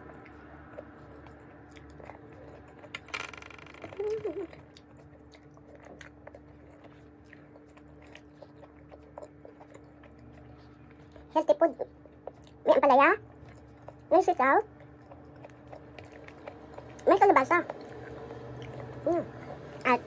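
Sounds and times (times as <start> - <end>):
chewing vegetables: 0.0 - 3.1, 3.8 - 20.0.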